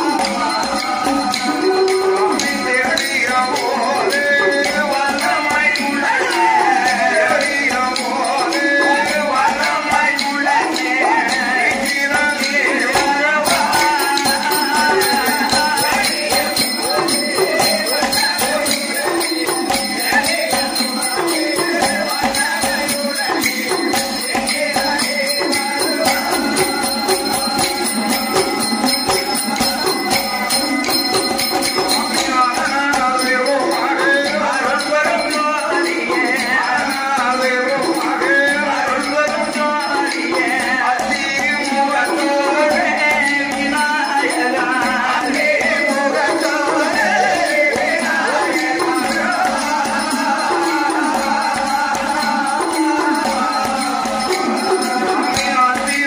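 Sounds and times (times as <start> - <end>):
bells jingling in rhythm: 0.0 - 56.0
people singing: 0.0 - 56.0
percussion: 0.0 - 56.0.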